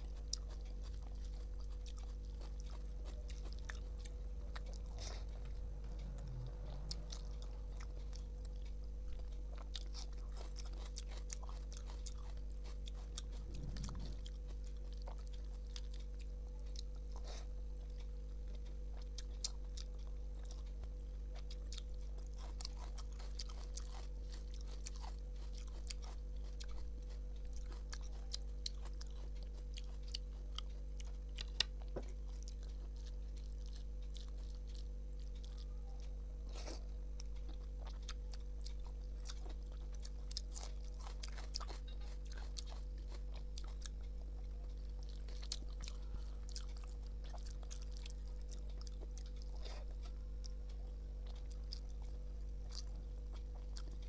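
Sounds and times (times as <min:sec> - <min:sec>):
chewing with wet clicks: 0:00.0 - 0:54.0
steady low hum: 0:00.0 - 0:54.0.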